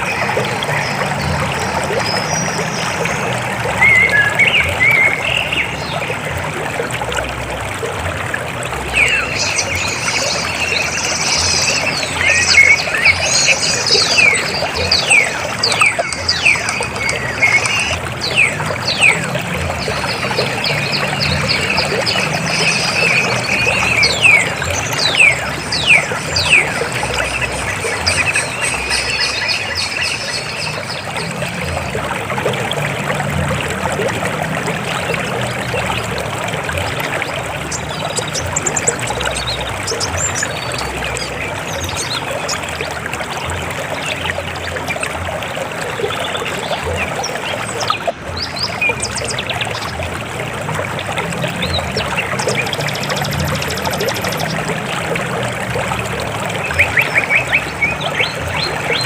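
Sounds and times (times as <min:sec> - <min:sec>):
river water flowing and splashing: 0:00.0 - 0:59.0.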